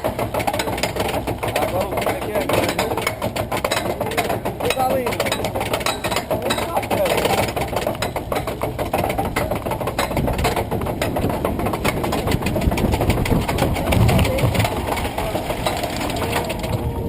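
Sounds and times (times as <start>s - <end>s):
roller coaster train on track: 0.0s - 17.0s.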